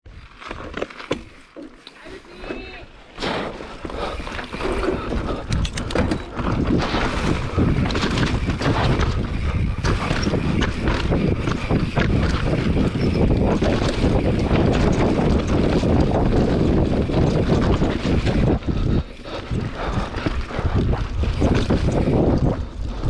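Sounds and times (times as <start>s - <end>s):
bike rattling over rough ground: 0.1s - 23.0s
wind noise on microphone: 4.0s - 23.0s.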